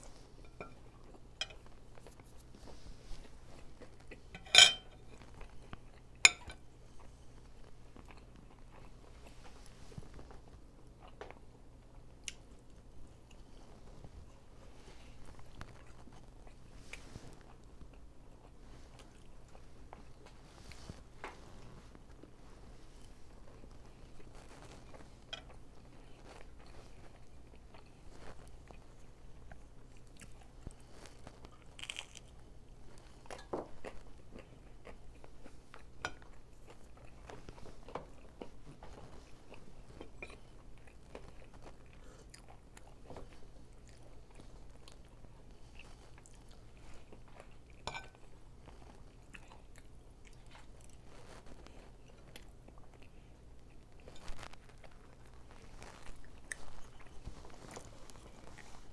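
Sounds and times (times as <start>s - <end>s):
chewing fried chicken: 0.0s - 58.9s.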